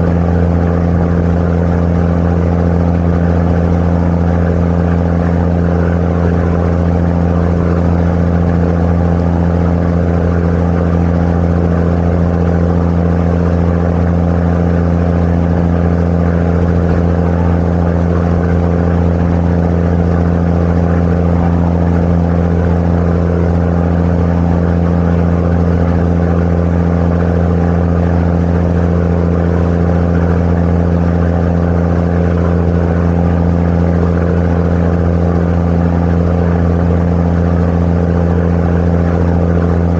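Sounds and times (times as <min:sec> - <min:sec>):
boat engine low drone: 0:00.0 - 0:39.9.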